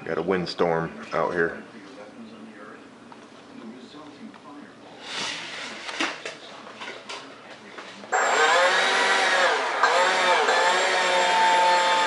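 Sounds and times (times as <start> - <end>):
electric ducted fan whining: 0.0 - 12.0.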